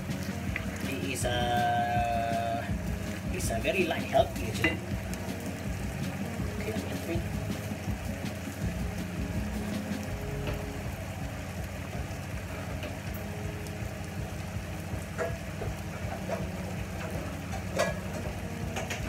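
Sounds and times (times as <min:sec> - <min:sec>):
pots bubbling on stove: 0:00.0 - 0:19.0.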